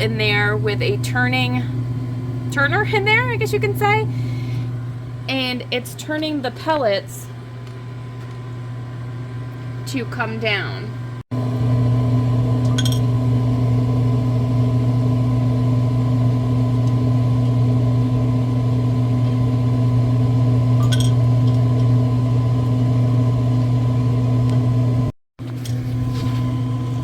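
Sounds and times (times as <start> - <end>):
fan and auger motor humming: 0.0 - 27.0.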